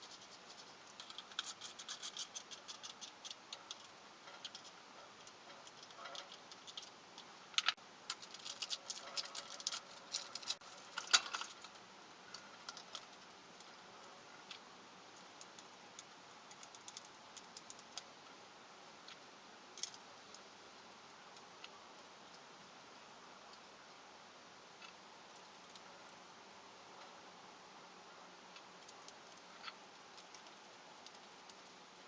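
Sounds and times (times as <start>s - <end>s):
steady low background noise: 0.0s - 32.0s.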